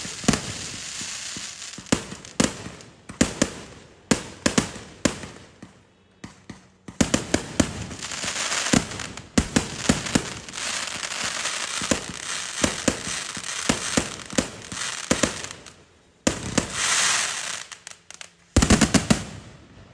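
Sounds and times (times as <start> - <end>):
firework crackling: 0.0 - 5.6, 7.0 - 19.9
firework bangs: 0.0 - 17.8, 18.6 - 19.6.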